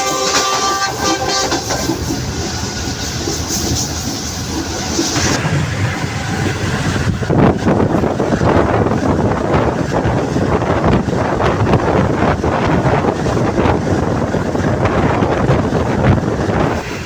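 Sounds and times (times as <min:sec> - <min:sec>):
train wheels rumbling on track: 0:00.0 - 0:17.0
wind gusts on microphone: 0:01.0 - 0:17.0.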